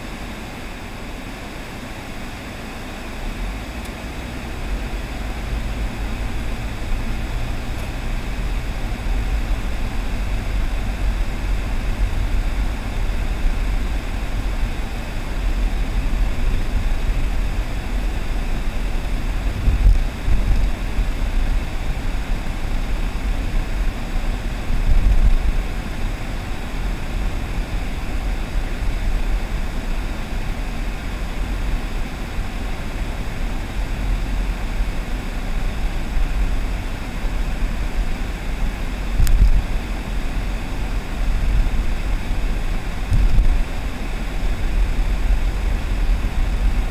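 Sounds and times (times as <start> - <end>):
car interior road rumble: 0.0 - 46.9.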